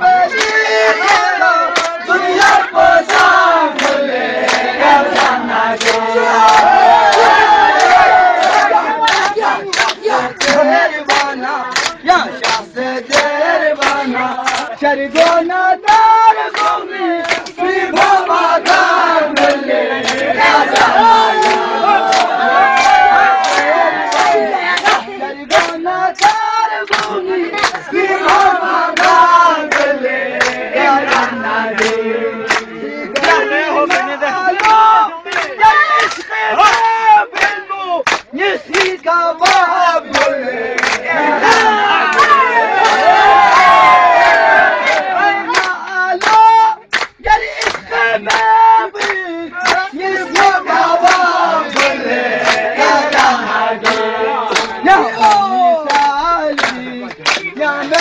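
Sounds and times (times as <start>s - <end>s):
group of voices singing: 0.0s - 58.0s
hand claps: 0.3s - 58.0s.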